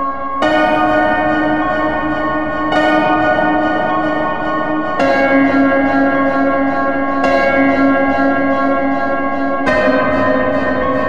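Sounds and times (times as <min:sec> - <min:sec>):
sustained bell-like chords: 0:00.0 - 0:11.0.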